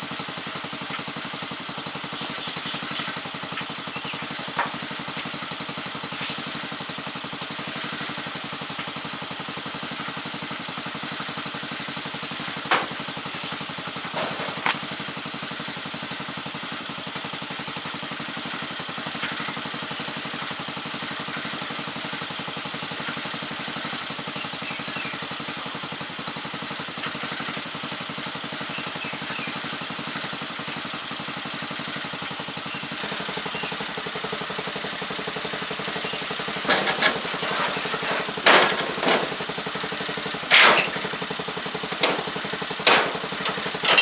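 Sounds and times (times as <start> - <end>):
small engine idling: 0.0 - 44.0.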